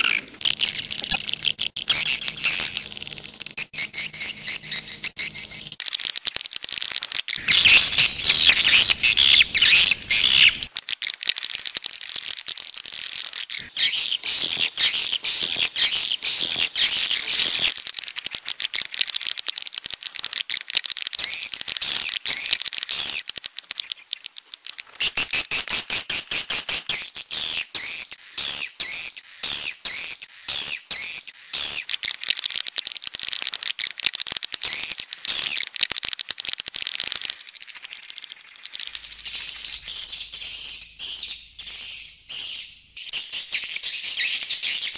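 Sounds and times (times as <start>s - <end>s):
swiftlet clicks and chirping twitters: 0.0s - 44.9s.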